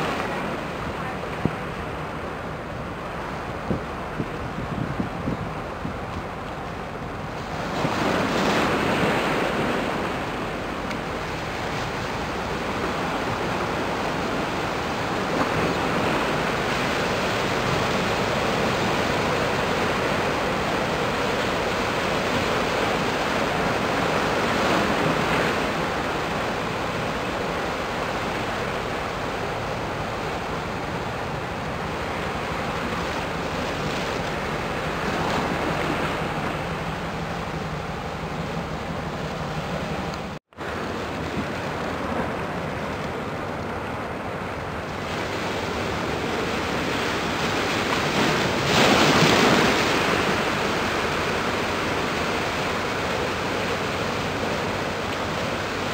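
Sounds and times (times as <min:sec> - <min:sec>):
wind on microphone: 0:02.8 - 0:55.9.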